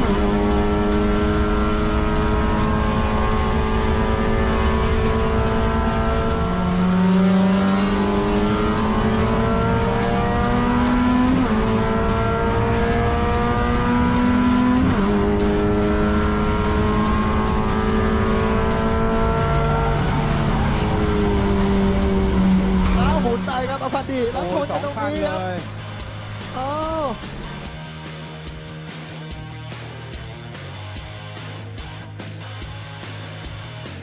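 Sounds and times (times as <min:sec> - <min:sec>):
race car engine revving: 0:00.0 - 0:28.7
background music: 0:00.0 - 0:34.0.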